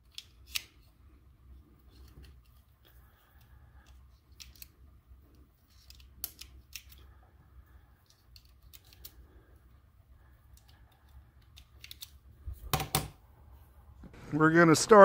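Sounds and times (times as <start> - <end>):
faint clicks and scrapes of cartridges: 0.0 - 12.6.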